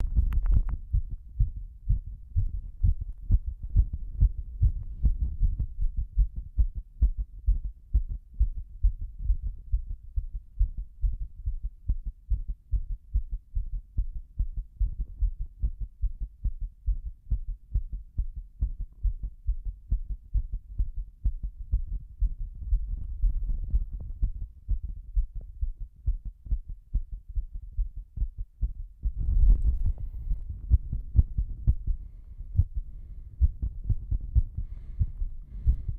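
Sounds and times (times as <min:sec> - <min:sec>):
heartbeat pounding: 0:00.0 - 0:35.9.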